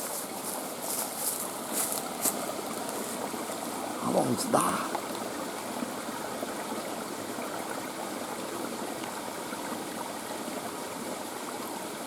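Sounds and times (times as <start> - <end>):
stream flowing water: 0.0 - 12.0.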